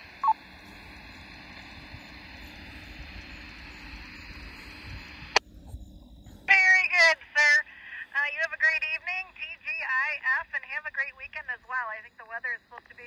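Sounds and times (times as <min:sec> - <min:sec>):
radio static hiss: 0:00.0 - 0:05.4, 0:06.5 - 0:13.0.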